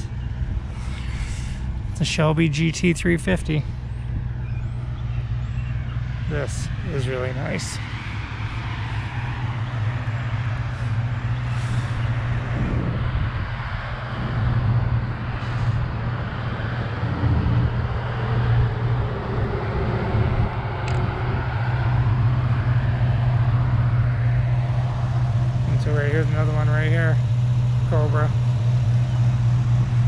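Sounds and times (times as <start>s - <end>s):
road traffic passing: 0.0s - 30.0s
steady low hum: 0.0s - 30.0s.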